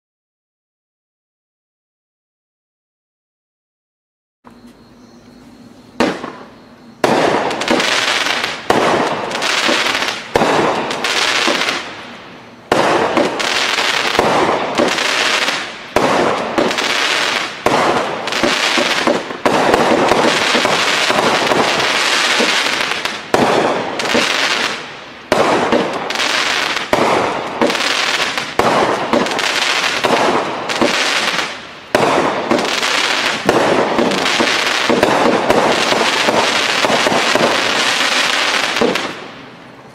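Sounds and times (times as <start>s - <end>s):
fireworks firing sharp reports: 6.0s - 39.5s.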